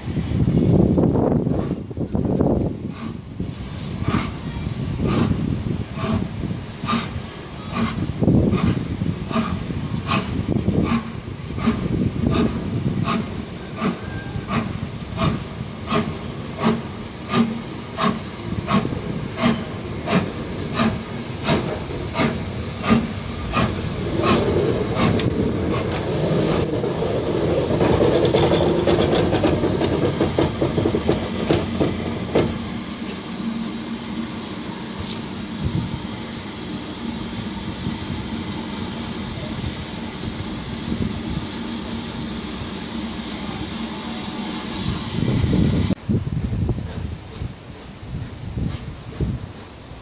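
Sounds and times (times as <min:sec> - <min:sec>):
steam hissing: 0:00.0 - 0:50.0
steam locomotive chuffing: 0:00.0 - 0:50.0.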